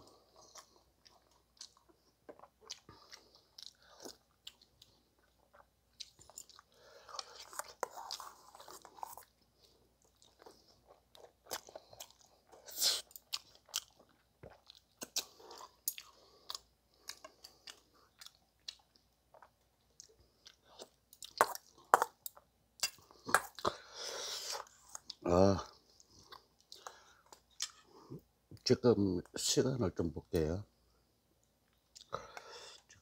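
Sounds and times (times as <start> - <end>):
chewing and crunching food: 0.0 - 29.4, 31.4 - 33.0.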